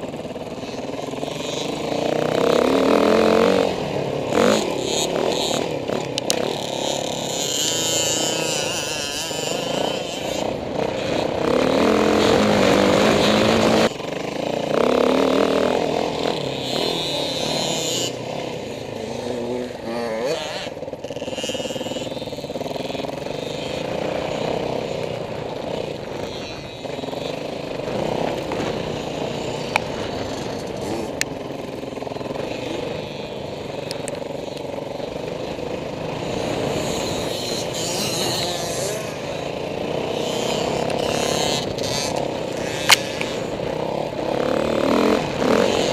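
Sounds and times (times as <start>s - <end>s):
dirt bike engine: 0.0s - 45.9s.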